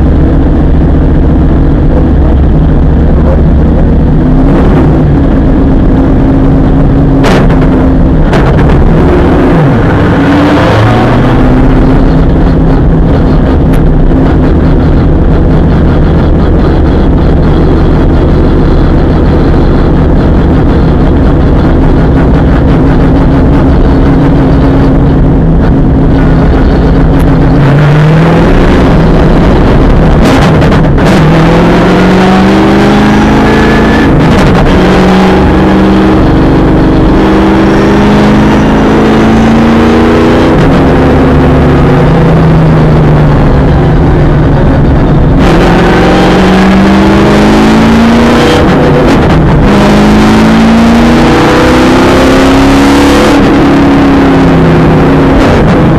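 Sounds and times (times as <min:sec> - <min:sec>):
race car engine accelerating: 0:00.0 - 0:55.9.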